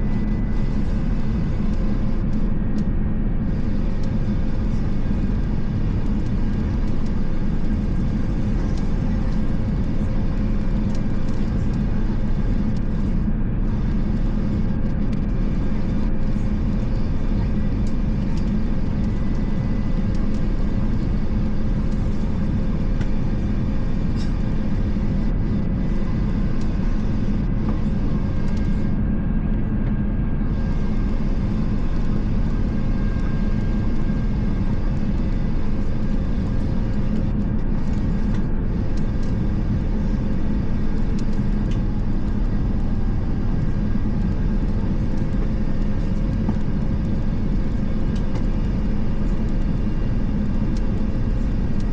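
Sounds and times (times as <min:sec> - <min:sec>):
airplane cabin drone: 0:00.0 - 0:51.9
faint steady hum: 0:00.0 - 0:51.9.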